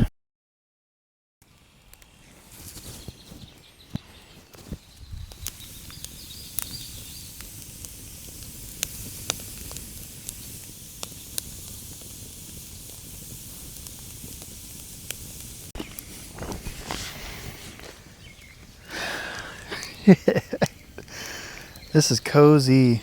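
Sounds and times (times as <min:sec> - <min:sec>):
campfire crackling and popping: 0:01.4 - 0:23.0.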